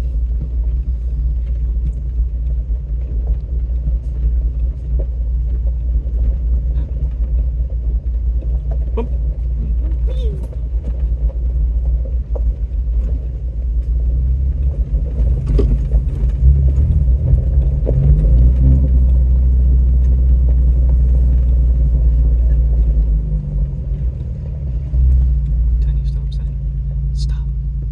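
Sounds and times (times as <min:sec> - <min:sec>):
vehicle engine rumbling: 0:00.0 - 0:27.9.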